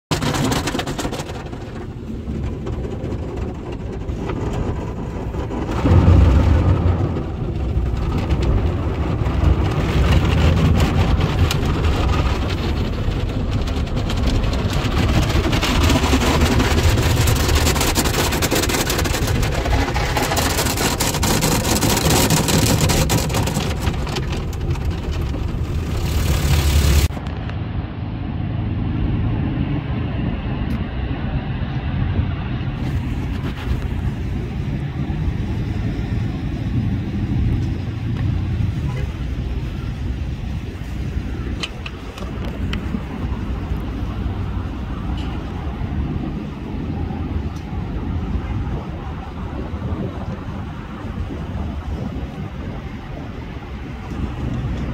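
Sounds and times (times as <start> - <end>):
outdoor wind noise: 0.0 - 54.9
steady low rumble: 0.1 - 54.9.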